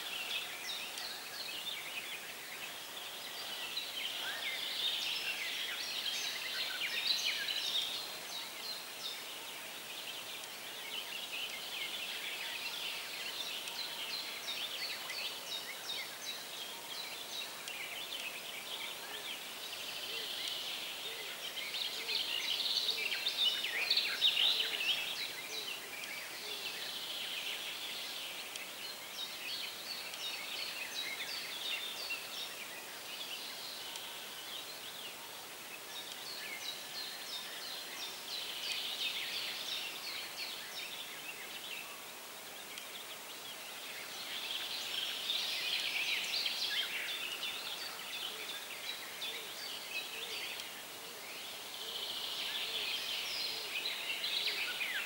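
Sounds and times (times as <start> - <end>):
faint steady hiss: 0.0 - 55.0
songbirds chirping and trilling: 0.0 - 55.0.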